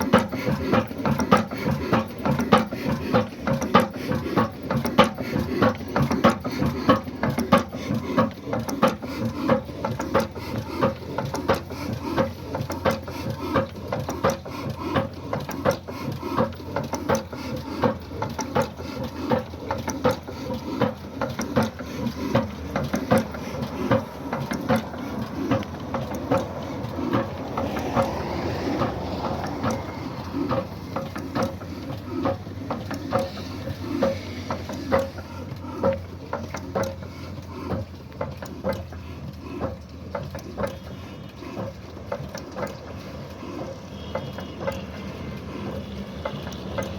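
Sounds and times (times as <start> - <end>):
stationary diesel engine knocking: 0.0 - 46.9.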